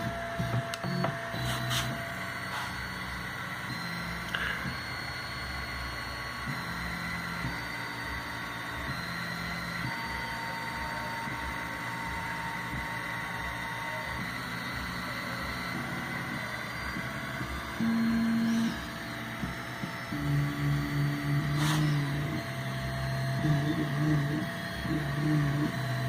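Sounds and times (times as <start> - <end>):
steady hum: 0.0 - 26.0
stepper motors whining: 0.0 - 26.0.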